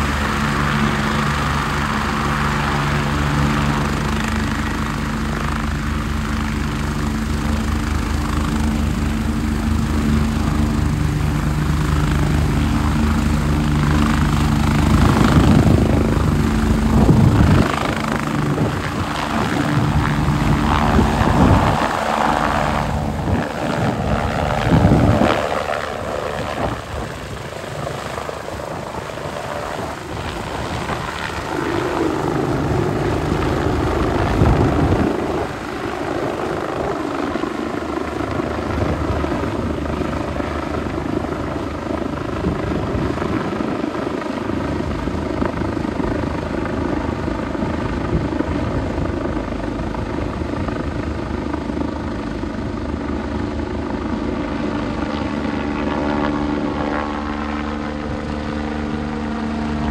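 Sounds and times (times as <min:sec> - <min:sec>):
helicopter lifting off: 0:00.0 - 0:59.9.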